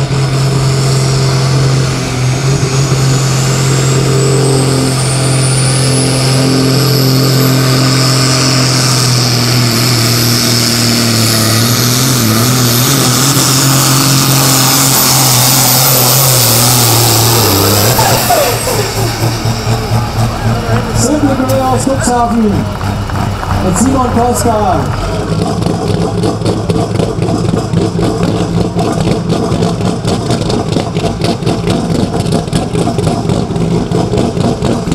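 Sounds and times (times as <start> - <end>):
high engine whine: 0.0 - 34.9
tractor diesel engine under load: 0.0 - 34.9.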